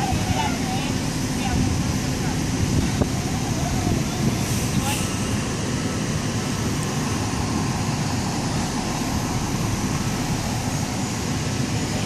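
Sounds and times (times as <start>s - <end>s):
car engines idling: 0.0s - 12.0s.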